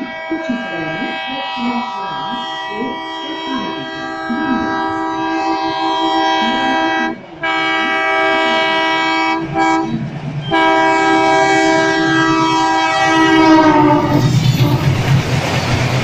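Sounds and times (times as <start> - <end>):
locomotive horn blasts: 0.0 - 14.9.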